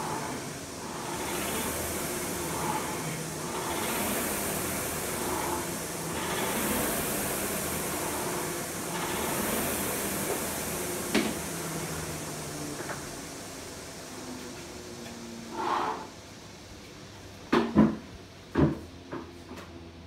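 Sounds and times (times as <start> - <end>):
rowing machine flywheel whirring: 0.0 - 19.2.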